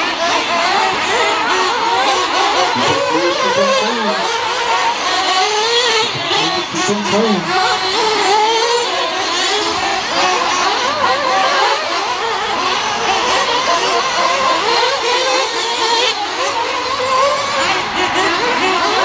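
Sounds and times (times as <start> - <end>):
rc car engines buzzing: 0.0 - 19.0.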